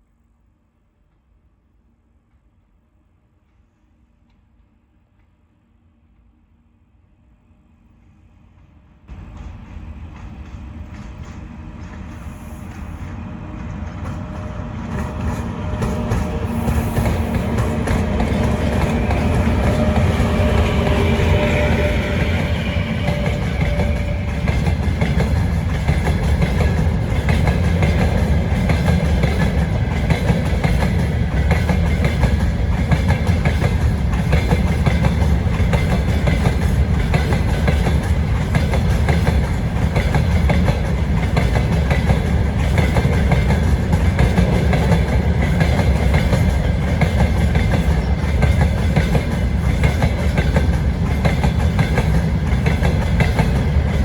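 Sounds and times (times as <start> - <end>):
freight train wagons rumbling: 8.6 - 54.0.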